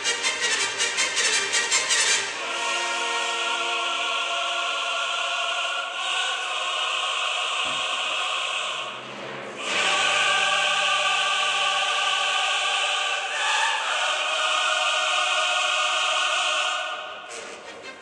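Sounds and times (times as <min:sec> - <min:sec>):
choir singing held chords: 0:02.0 - 0:18.0.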